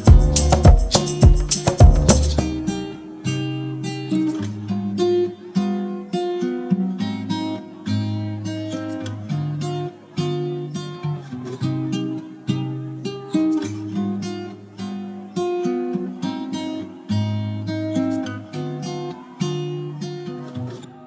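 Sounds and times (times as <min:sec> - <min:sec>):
acoustic guitar plucking and strumming: 0:00.0 - 0:21.0.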